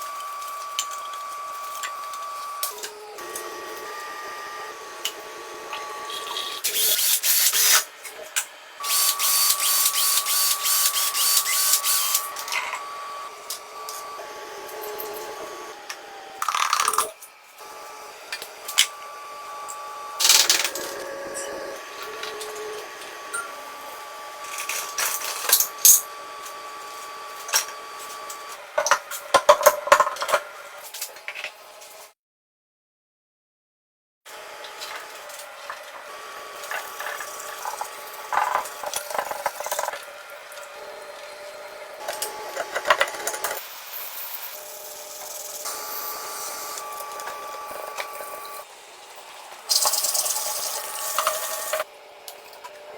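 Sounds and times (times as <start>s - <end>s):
power tool whining: 0.0s - 29.0s, 34.3s - 48.8s, 49.6s - 52.9s.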